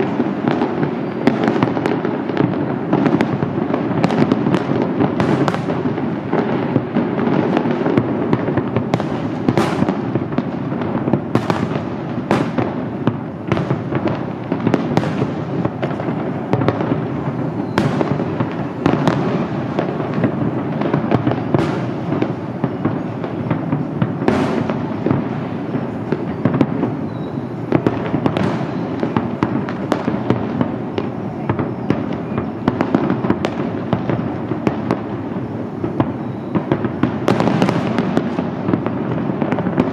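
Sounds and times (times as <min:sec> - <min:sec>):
fireworks bursting rumble: 0:00.0 - 0:39.9
sharp firework cracks: 0:00.0 - 0:39.9.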